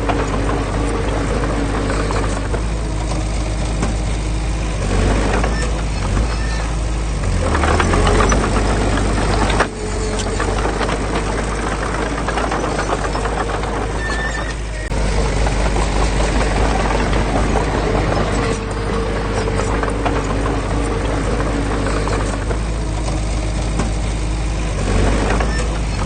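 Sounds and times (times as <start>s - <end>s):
drawn-out squeal: 0.0s - 26.0s
heavy diesel machine running: 0.0s - 26.0s
metallic clatter of crawler tracks: 0.0s - 26.0s.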